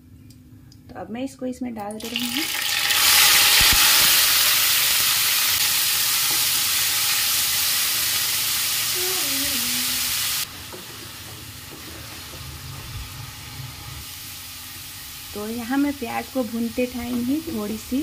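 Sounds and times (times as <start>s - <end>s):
onion sizzling in hot oil: 2.0s - 18.0s.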